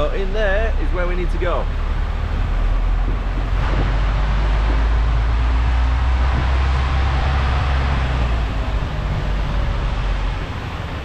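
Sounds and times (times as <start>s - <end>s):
diesel lorry engine rumbling: 0.0s - 11.0s
road and tyre noise: 0.0s - 11.0s.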